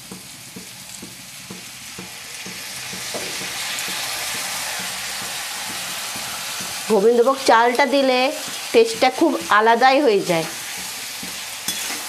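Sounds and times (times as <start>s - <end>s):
mixture sizzling in hot oil: 0.0s - 12.0s.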